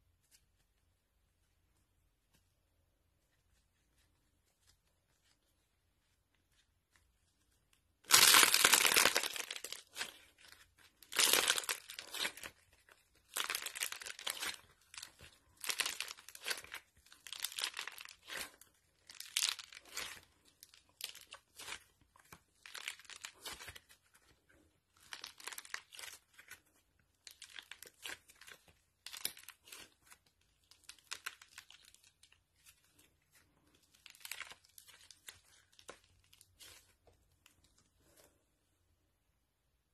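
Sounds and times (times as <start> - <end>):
modelling clay squishing: 0.0 - 39.9.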